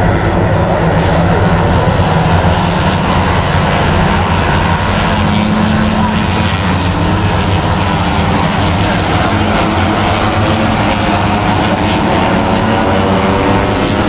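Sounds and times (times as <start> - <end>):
rushing noise: 0.0 - 14.0
steady engine drone: 0.0 - 14.0.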